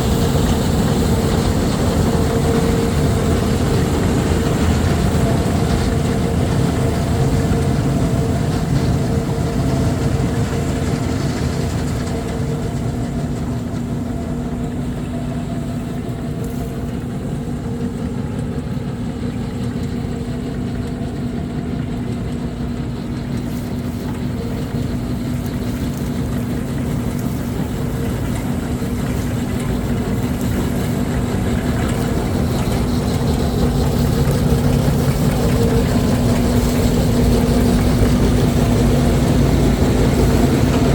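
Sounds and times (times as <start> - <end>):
constant humming tone: 0.0 - 40.9
diesel engine of farm machinery: 0.0 - 40.9.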